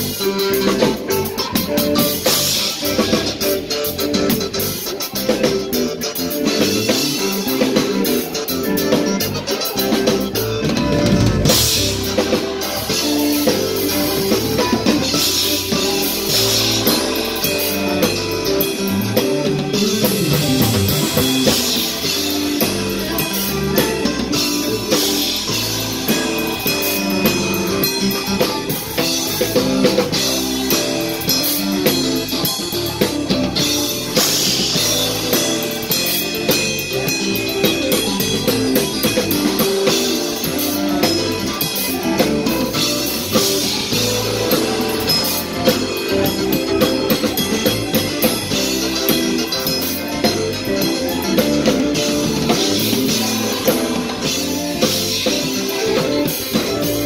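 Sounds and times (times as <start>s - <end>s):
electric guitar: 0.0s - 57.0s
electronic keyboard: 0.0s - 57.0s
steady drum beat: 0.0s - 57.0s.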